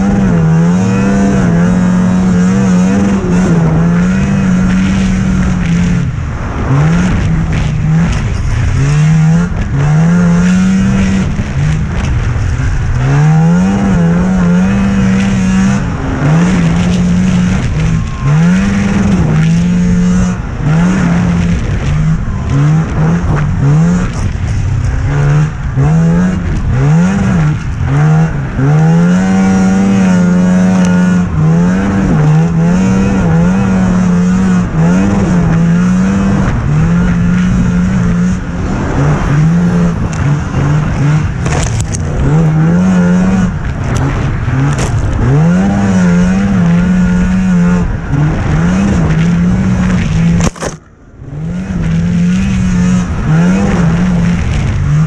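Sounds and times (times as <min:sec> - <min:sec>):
rush of track and air noise: 0:00.0 - 0:55.0
snowmobile engine revving: 0:00.0 - 0:55.0.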